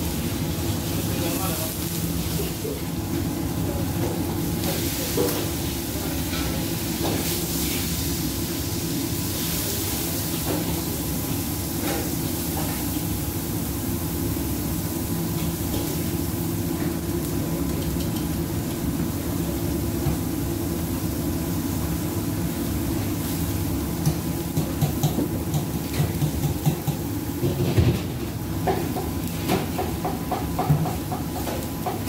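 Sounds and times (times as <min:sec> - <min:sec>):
gas burner rumbling: 0:00.0 - 0:32.0.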